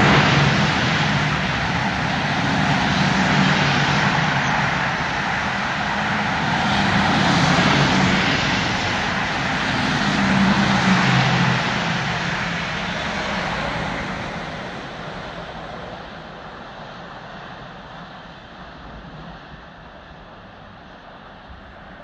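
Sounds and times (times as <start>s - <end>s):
freight train passing: 0.0s - 22.0s
wheels on track: 0.0s - 22.0s.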